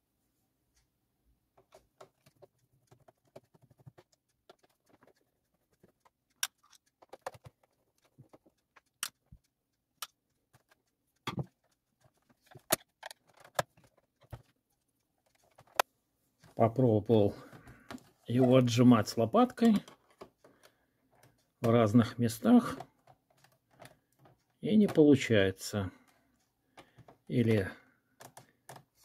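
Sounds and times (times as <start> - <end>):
hand tools clicking on plastic: 1.5 - 16.6, 17.3 - 29.0.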